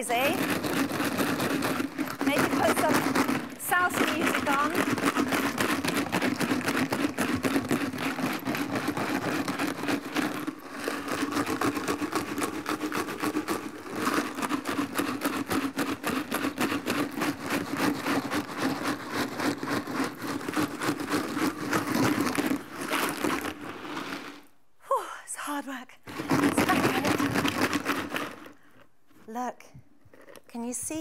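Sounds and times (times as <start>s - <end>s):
ice and salt rattling in tub: 0.0s - 24.5s, 26.1s - 29.4s.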